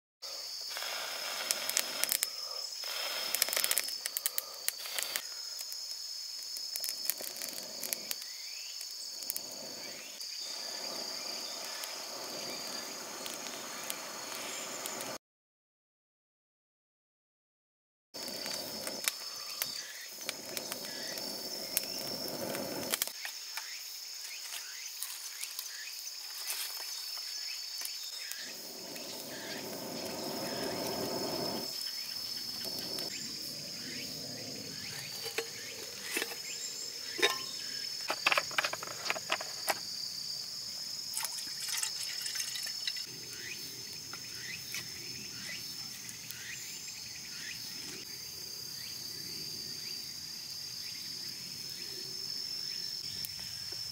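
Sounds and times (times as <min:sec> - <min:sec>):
insects chirring: 0:00.2 - 0:15.2, 0:18.2 - 0:53.9.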